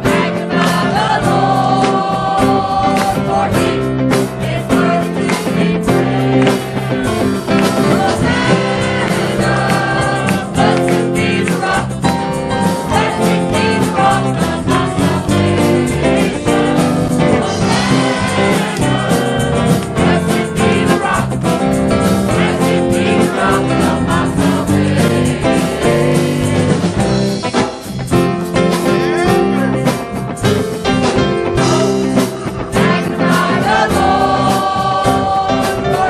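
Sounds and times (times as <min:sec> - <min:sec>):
voices singing gospel: 0:00.0 - 0:27.5, 0:28.7 - 0:36.0
band with guitar and beat: 0:00.0 - 0:36.0.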